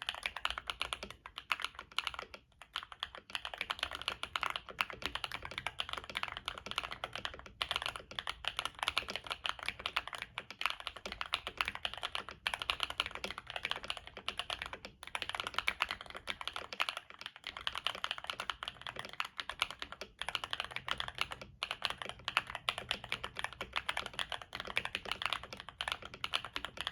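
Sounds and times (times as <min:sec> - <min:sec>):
mechanical keyboard typing: 0:00.0 - 0:26.9.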